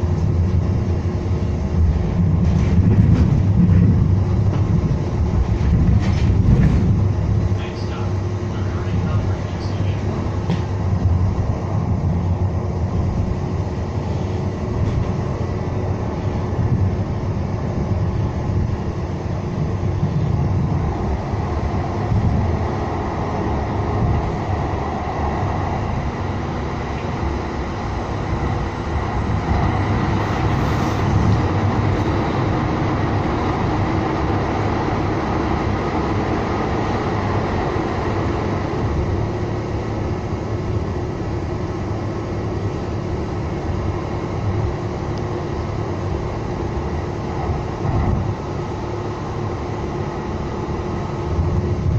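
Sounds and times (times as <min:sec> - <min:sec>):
rail car wheels rumbling: 0:00.0 - 0:51.9.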